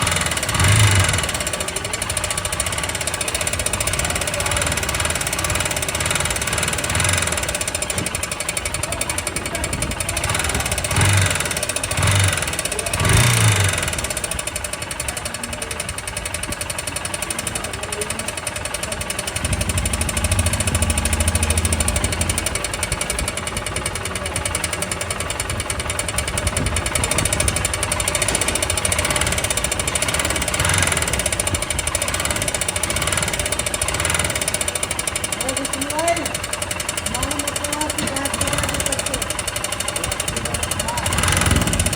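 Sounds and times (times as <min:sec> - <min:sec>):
motorcycle engine knocking: 0:00.0 - 0:41.9.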